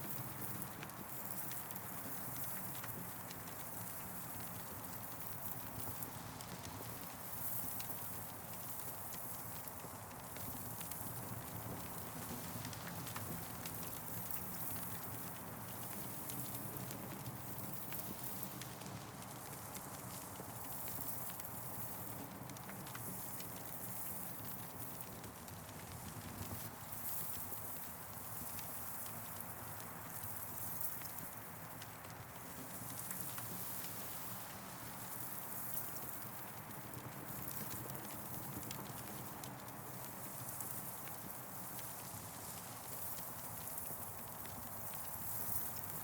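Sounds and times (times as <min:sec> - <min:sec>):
campfire crackling and popping: 0:00.5 - 0:46.0.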